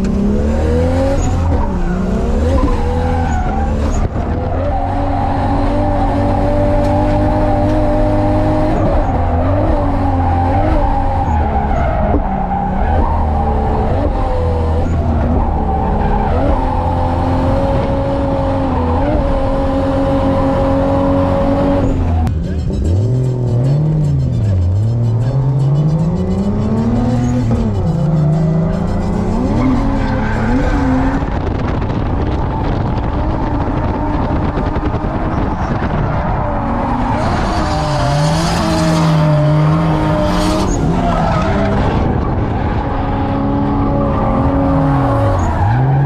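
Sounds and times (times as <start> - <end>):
car engine revving: 0.0 - 46.0
tyres squealing and skidding: 0.6 - 18.0, 18.6 - 31.4, 33.8 - 46.0.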